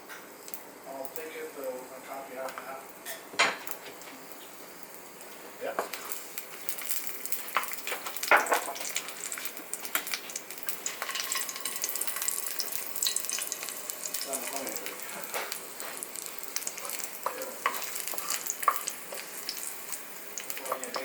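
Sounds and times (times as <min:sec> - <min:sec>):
stir-fry sizzling in a pan: 0:00.0 - 0:21.0.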